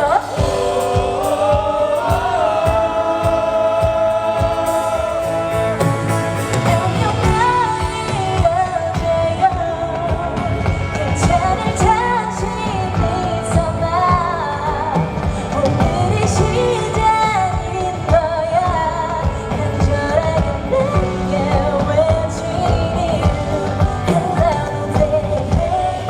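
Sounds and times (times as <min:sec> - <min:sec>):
live band with drums: 0:00.0 - 0:26.0
woman singing: 0:00.0 - 0:26.0.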